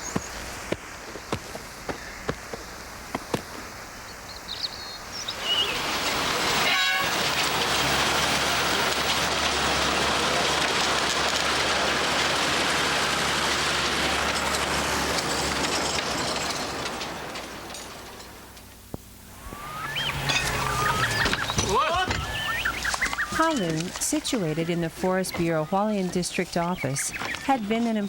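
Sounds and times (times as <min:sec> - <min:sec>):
train running: 0:05.1 - 0:28.0.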